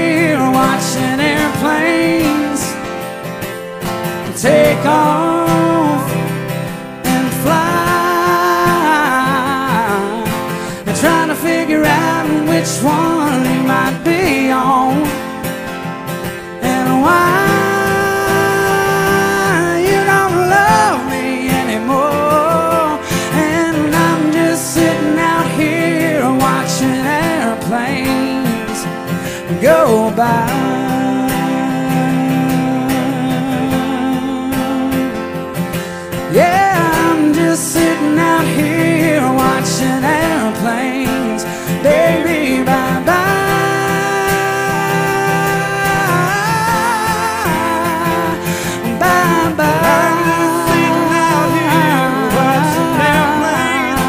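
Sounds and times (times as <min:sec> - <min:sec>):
man singing: 0:00.0 - 0:03.1, 0:04.1 - 0:15.6, 0:16.2 - 0:54.0
acoustic guitar: 0:00.0 - 0:54.0.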